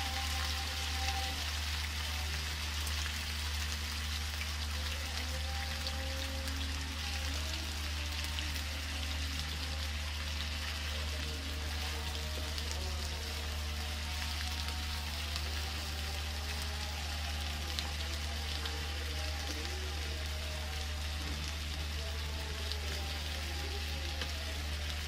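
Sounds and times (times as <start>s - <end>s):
potatoes sizzling in oil: 0.0s - 25.0s.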